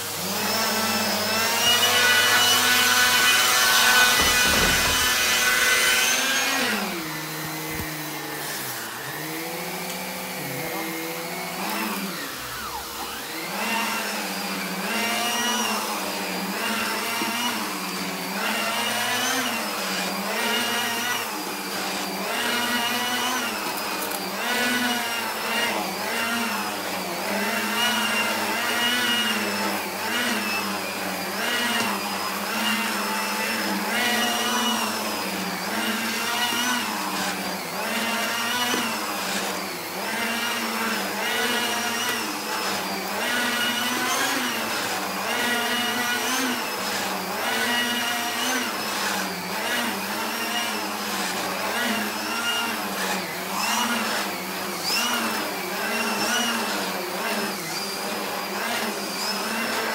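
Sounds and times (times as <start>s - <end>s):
vacuum cleaner on a rug: 0.0s - 59.9s.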